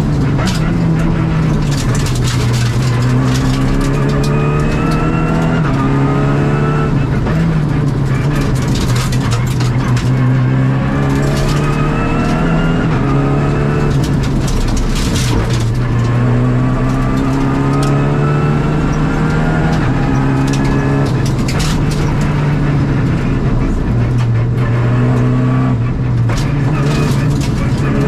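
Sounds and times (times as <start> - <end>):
sharp cracks and clatter: 0.0 - 5.9, 6.8 - 28.0
rally car engine revving: 0.0 - 28.0.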